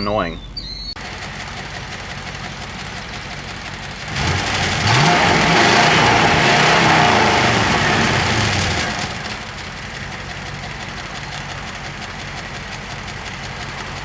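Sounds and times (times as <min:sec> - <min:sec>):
car engine idling and revving: 0:00.5 - 0:14.0.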